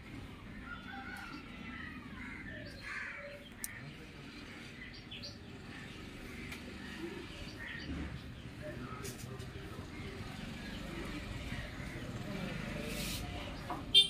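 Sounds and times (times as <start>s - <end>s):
birds chirping and calling: 0.1s - 14.0s.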